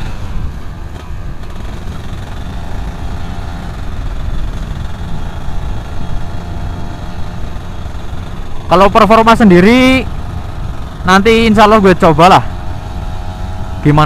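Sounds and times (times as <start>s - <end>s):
two-stroke motorcycle engine running: 0.0s - 14.0s.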